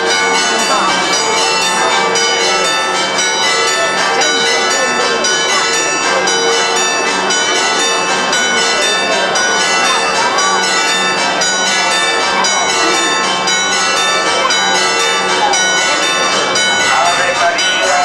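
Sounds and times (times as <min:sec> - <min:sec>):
church bells pealing: 0:00.0 - 0:18.0
crowd voices: 0:00.0 - 0:18.0.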